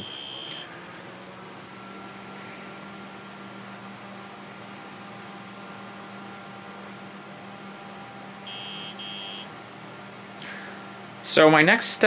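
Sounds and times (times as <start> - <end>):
computer hum with low tone: 0.0 - 11.2
fan hiss: 0.0 - 12.0.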